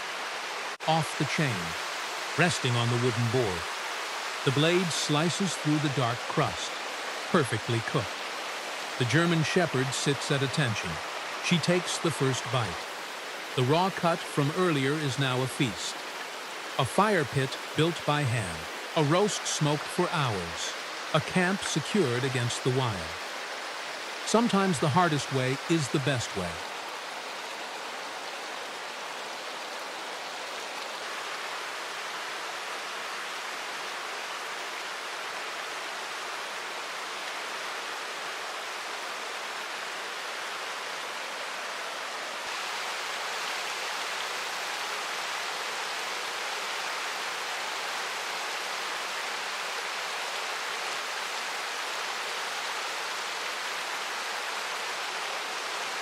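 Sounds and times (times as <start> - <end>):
flowing river water: 0.0 - 56.0.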